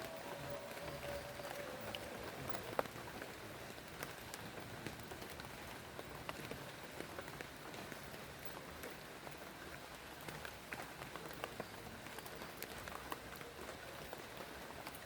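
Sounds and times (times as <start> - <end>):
rain drops tapping: 0.0 - 15.0.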